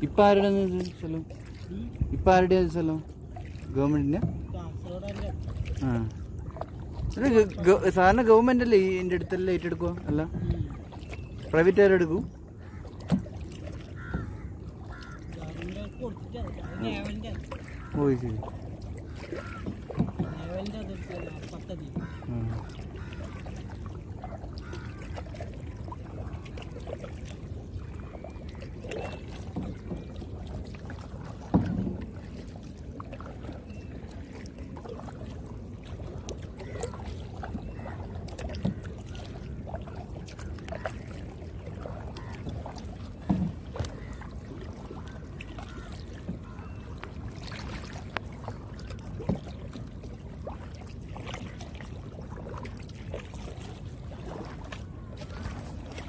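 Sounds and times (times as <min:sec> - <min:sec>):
paddle dipping and dripping water: 0:00.0 - 0:56.0.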